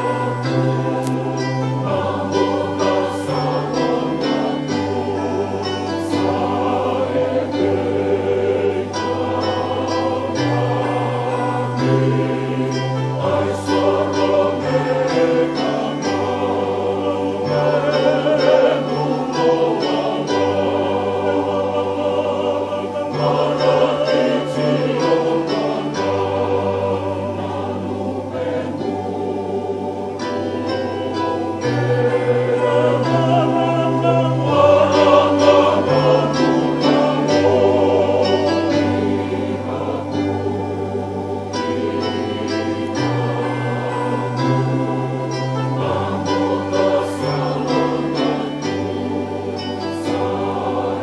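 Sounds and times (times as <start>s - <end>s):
choir singing a hymn: 0.0s - 51.0s.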